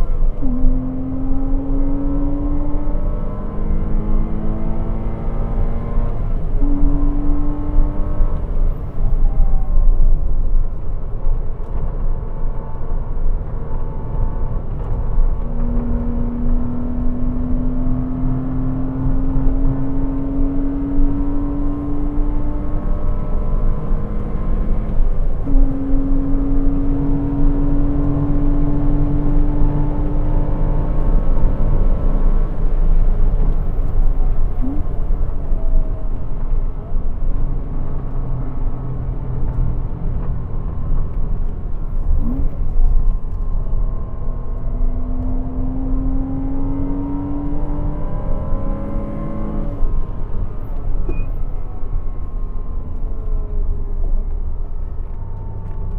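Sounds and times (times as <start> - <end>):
car engine at full throttle: 0.0 - 55.9.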